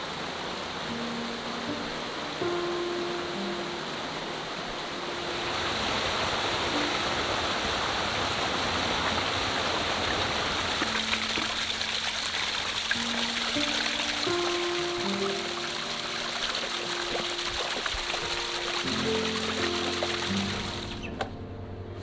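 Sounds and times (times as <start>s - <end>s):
water rushing over rocks: 0.0s - 21.4s.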